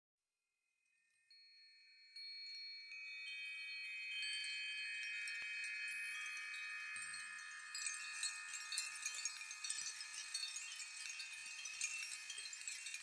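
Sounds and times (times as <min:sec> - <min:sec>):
ringing chime-like tones: 0:01.0 - 0:13.0.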